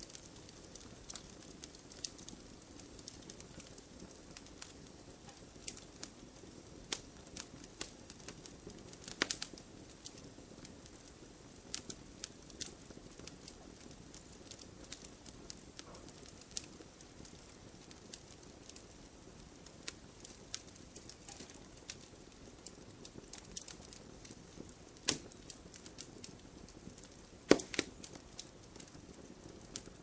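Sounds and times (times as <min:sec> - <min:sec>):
hiss of burning: 0:00.0 - 0:30.0
wood fire crackling: 0:00.0 - 0:30.0.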